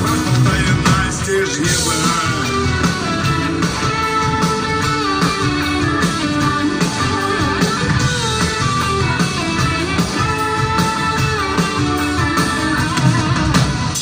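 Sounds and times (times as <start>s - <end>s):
electric guitar melody: 0.0s - 14.0s
rock band playing instrumental: 0.0s - 14.0s.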